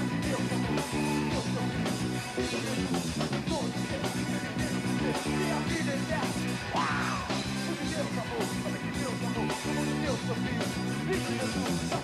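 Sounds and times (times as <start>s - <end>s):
electric guitars: 0.0s - 12.0s
steady drum beat: 0.0s - 12.0s.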